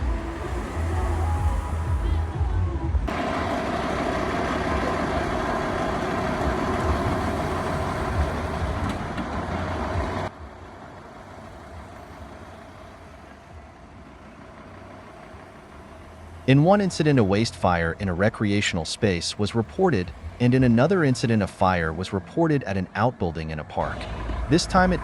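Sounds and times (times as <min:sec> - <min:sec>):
fire engine running: 0:00.0 - 0:25.0
quiet steady rumble: 0:00.0 - 0:25.0.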